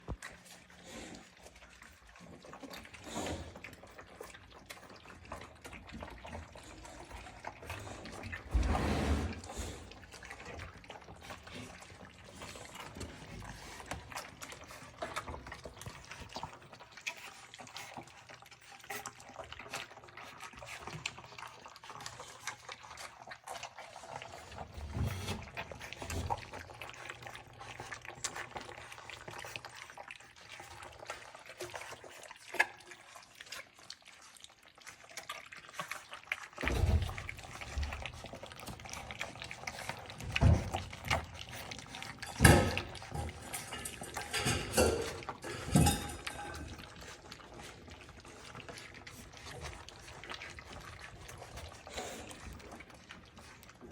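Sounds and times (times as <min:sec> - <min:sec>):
puppies lapping wet food: 0:00.0 - 0:53.9.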